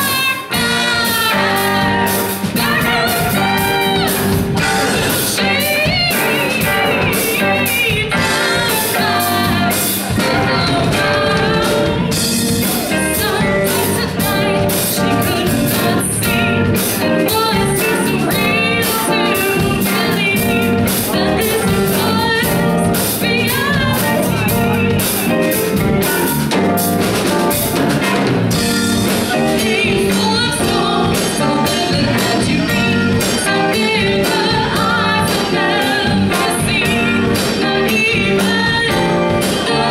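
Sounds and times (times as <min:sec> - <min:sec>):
woman singing: 0:00.0 - 0:26.6, 0:29.1 - 0:39.9
bass guitar: 0:00.0 - 0:39.9
drum kit with cymbals: 0:00.0 - 0:39.9
electric guitar: 0:00.0 - 0:39.9.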